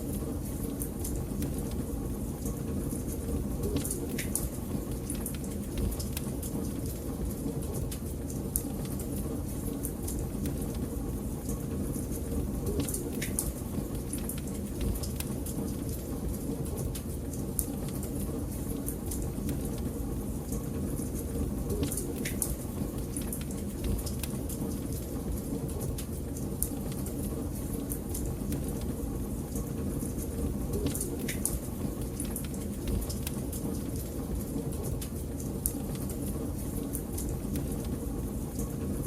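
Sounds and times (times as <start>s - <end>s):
low rumble of flames: 0.0s - 39.0s
fire crackling and popping: 0.1s - 39.0s.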